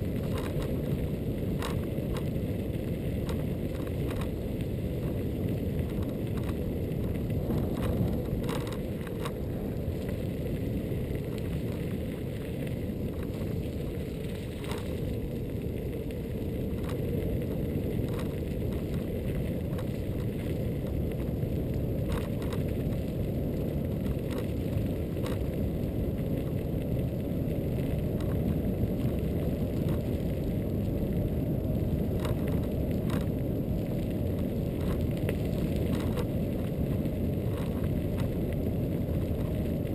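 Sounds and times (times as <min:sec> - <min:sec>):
tyre and wind rumble: 0:00.0 - 0:39.9.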